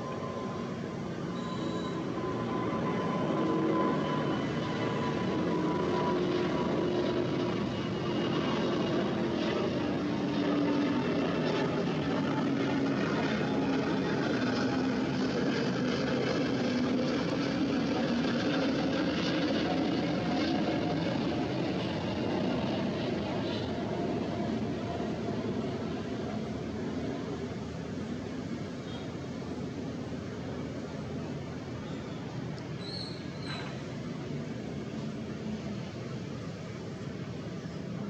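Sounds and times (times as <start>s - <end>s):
jet engines roaring at takeoff: 0.0s - 38.0s.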